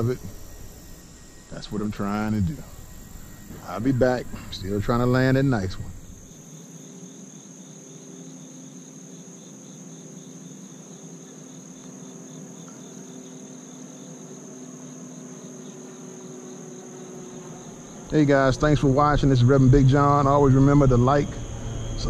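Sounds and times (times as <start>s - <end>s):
crickets trilling: 0.0s - 22.0s
faint low hum: 0.0s - 22.0s
faint pulsing insect call: 0.0s - 22.0s.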